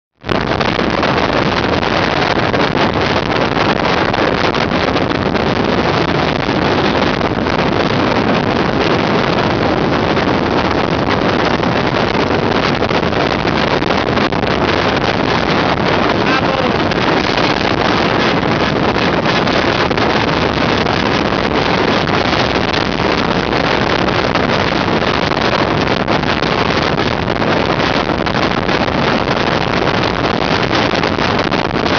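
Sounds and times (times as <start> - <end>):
wind buffeting microphone: 0.2 - 31.9
road and engine noise: 0.3 - 31.5.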